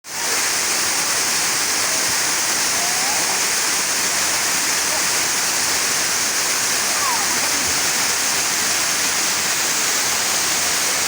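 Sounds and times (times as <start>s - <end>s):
waterfall rushing: 0.1s - 11.0s.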